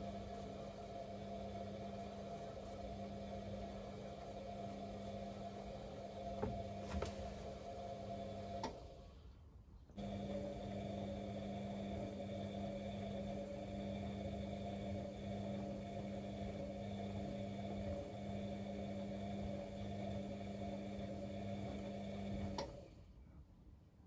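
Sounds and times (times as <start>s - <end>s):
washing machine humming: 0.0s - 9.2s, 10.0s - 22.9s.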